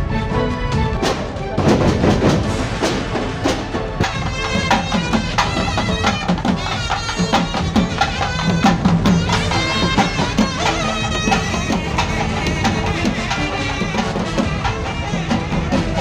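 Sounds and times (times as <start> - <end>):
music with percussion and drums: 0.7 - 16.0.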